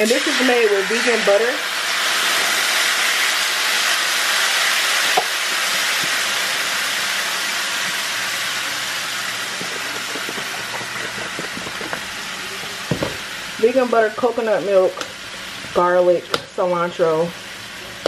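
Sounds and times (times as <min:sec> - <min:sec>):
sauce sizzling in hot pan: 0:00.0 - 0:18.0.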